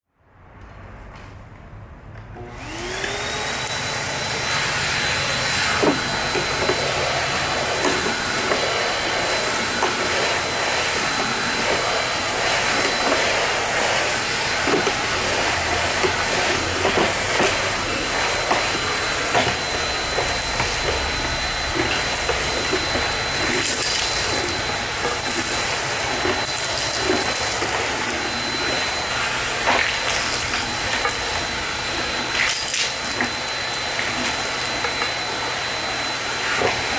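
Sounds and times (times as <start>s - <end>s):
vacuum cleaner motor whine: 2.1s - 36.9s.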